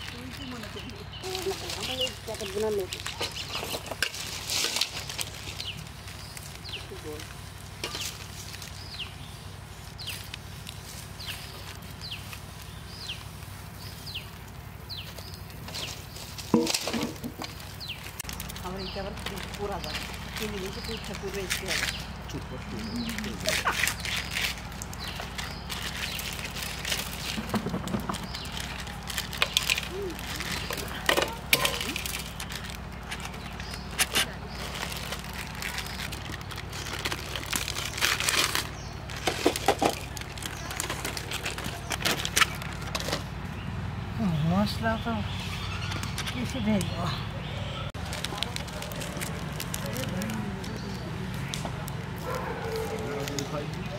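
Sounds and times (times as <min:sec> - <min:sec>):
plastic packets crinkling and tearing: 0:00.0 - 0:43.4, 0:48.0 - 0:53.9.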